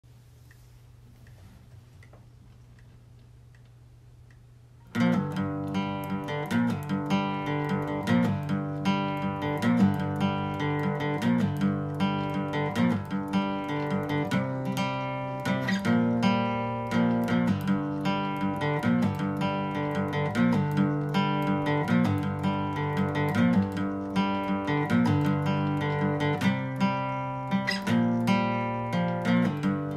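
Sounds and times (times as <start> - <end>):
faint low hum: 0.1 - 29.9
strummed acoustic guitar music: 4.9 - 29.9.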